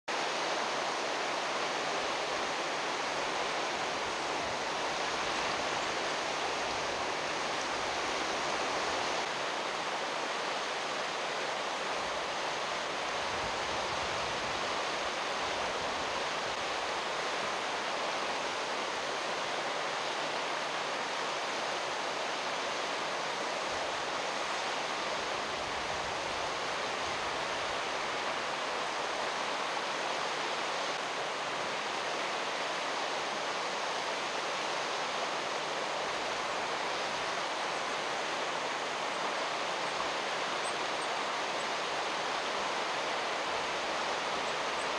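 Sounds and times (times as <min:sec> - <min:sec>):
stream rushing over rocks: 0:00.1 - 0:44.9.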